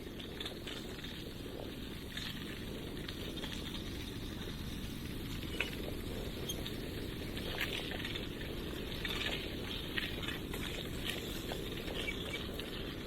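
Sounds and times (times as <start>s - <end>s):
bicycle tyres rolling: 0.0s - 13.0s
light clicks and crackles: 0.0s - 13.0s
wind buffeting microphone: 0.0s - 13.0s.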